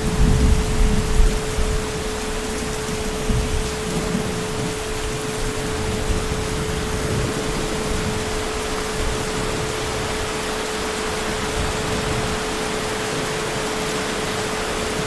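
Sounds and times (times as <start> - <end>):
heavy rain falling: 0.0 - 15.0
steady hum: 0.0 - 15.0.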